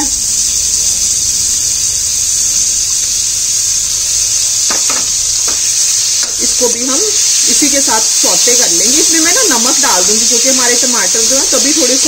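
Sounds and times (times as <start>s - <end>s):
onions and tomatoes frying: 0.0s - 12.0s.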